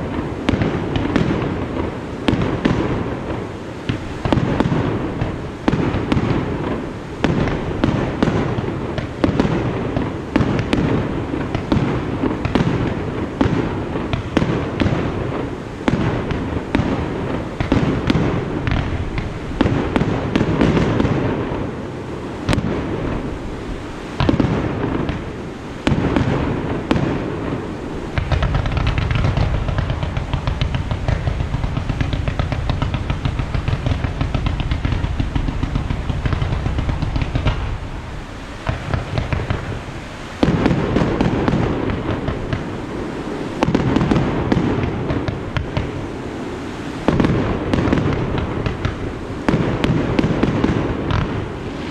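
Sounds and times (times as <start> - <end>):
fireworks crackling: 0.0 - 51.9.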